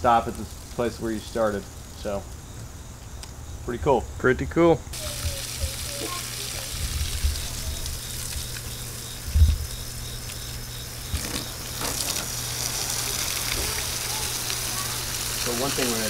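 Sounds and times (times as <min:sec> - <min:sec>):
sprinkler spray hissing: 0:00.0 - 0:02.3, 0:04.9 - 0:16.0.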